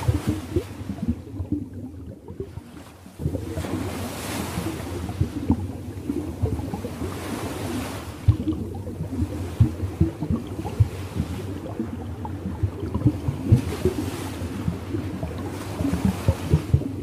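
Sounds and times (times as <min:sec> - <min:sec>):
water waves splashing: 0:00.0 - 0:17.0.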